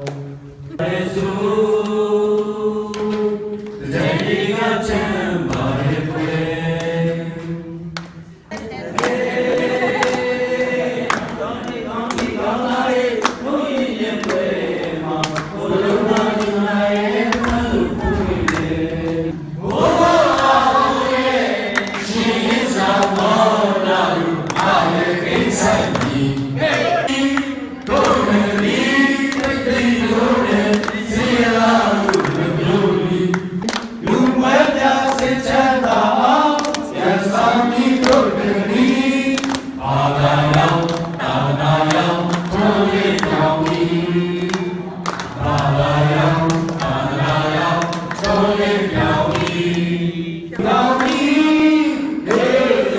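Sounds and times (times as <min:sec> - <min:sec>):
choir singing slow chant: 0:00.0 - 0:52.9.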